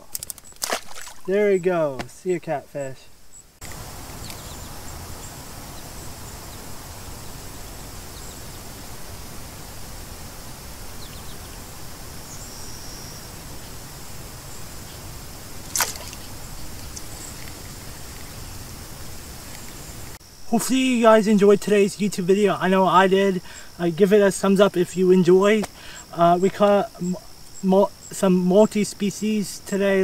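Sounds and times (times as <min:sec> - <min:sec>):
river ambient hiss: 0:00.0 - 0:30.0.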